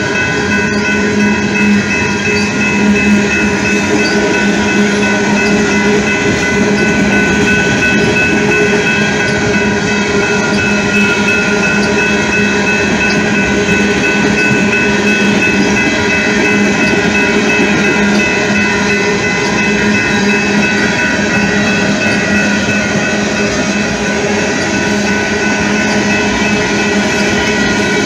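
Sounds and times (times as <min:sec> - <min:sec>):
freight train wheels rattling on rails: 0:00.0 - 0:28.0.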